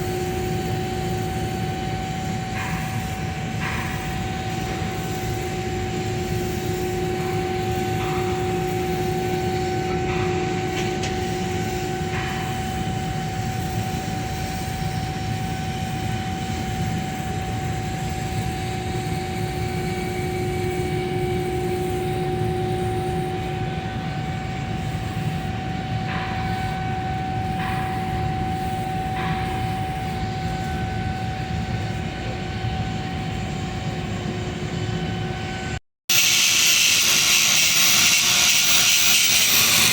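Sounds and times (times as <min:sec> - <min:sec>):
workshop machine drone: 0:00.0 - 0:39.9.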